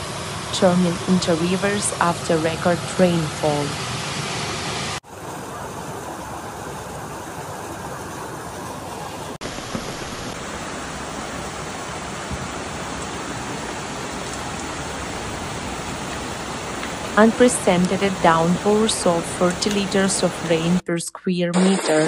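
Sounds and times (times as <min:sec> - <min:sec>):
floodwater rushing: 0:00.0 - 0:20.8
rain: 0:00.0 - 0:20.8.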